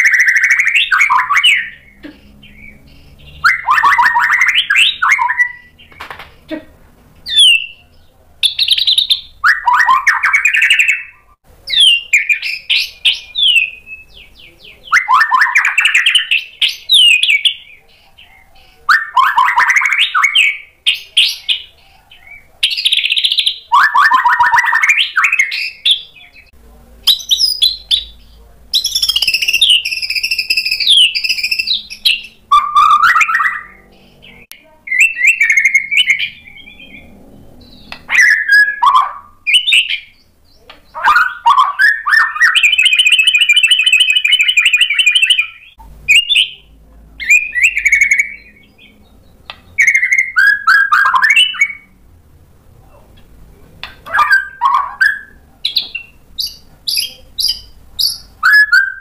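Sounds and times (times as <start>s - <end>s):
songbird whistling and warbling: 0.0s - 6.1s, 7.2s - 26.5s, 27.1s - 51.9s, 53.8s - 59.0s.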